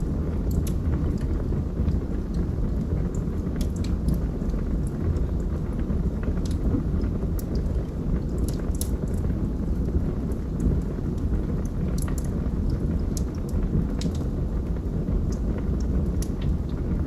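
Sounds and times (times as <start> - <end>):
fire flames rushing: 0.0 - 17.0
wood crackling and popping: 0.0 - 17.0.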